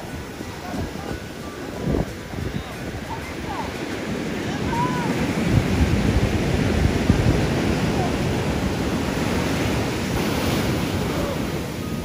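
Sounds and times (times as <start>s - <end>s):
ocean surf on beach: 0.0s - 12.0s
wind buffeting microphone: 0.0s - 12.0s.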